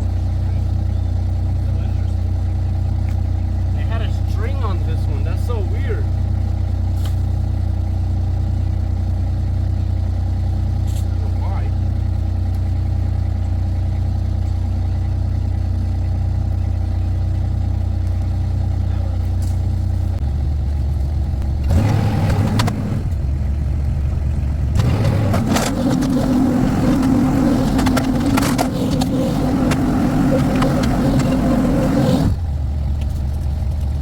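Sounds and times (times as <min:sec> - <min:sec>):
skid steer engine running: 0:00.0 - 0:34.0.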